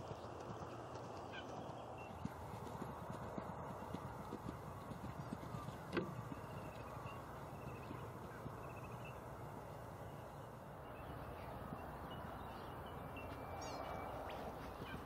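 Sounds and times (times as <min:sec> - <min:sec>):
open-air background noise: 0:00.0 - 0:15.0
bird calls: 0:00.1 - 0:15.0.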